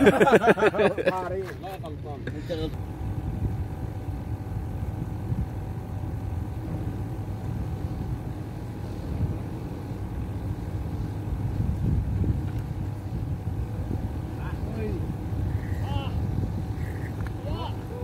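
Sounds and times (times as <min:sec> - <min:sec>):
motor running: 0:00.0 - 0:18.0.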